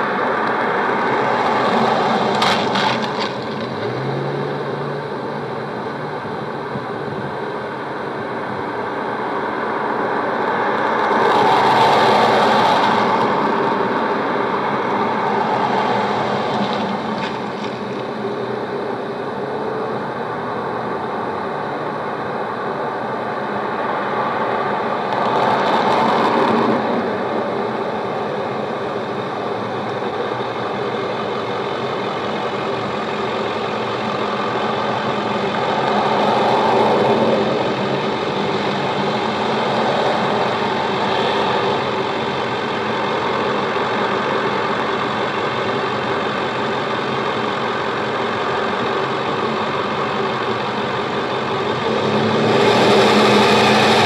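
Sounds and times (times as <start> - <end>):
cars passing: 0.0 - 54.0
road traffic noise: 0.0 - 54.0.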